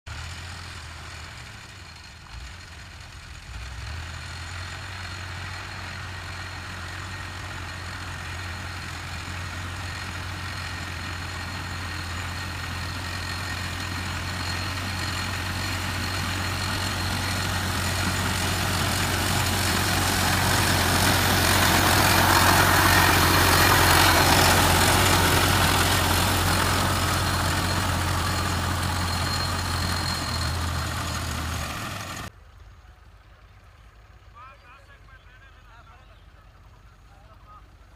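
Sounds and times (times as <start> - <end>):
tractor engine running: 0.1 - 37.9.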